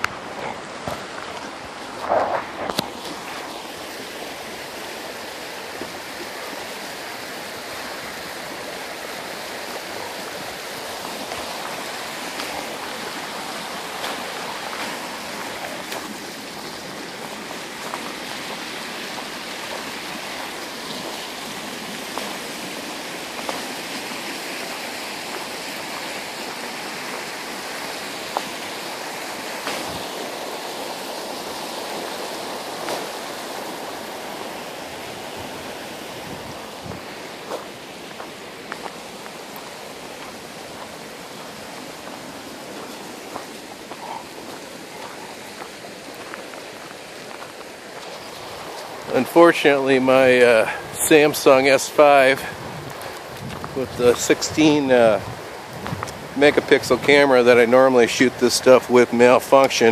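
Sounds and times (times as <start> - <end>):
creek rushing over rapids: 0.0 - 59.9.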